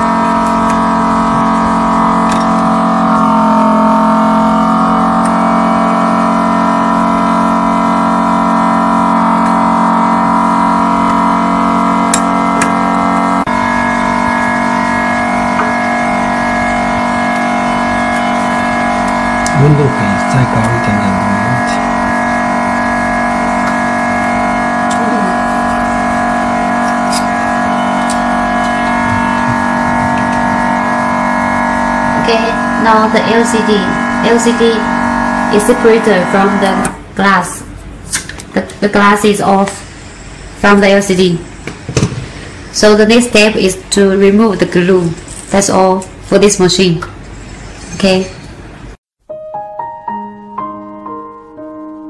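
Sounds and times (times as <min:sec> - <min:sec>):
vacuum pump humming: 0:00.0 - 0:48.2.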